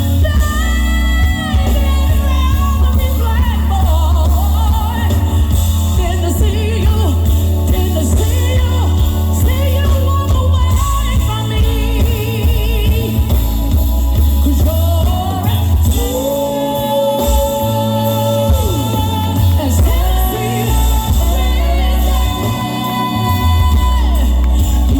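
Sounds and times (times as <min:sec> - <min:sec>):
pop music with singer: 0:00.0 - 0:24.9.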